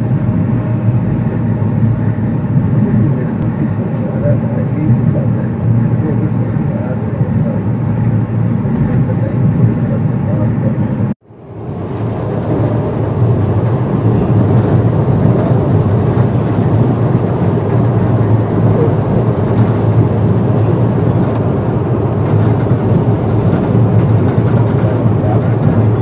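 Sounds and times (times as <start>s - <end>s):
train wheels rumbling and rattling: 0.0s - 26.0s.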